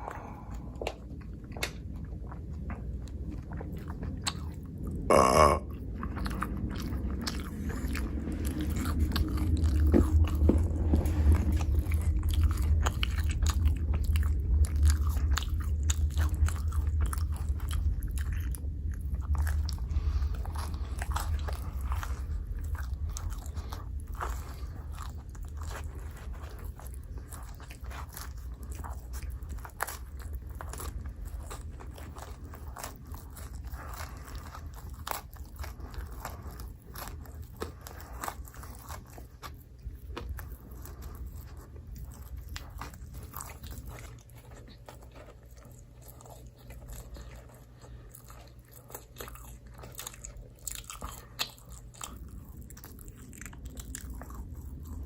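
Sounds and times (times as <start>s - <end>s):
chewing pizza crunches: 0.0s - 55.0s
low rumble: 0.0s - 55.0s.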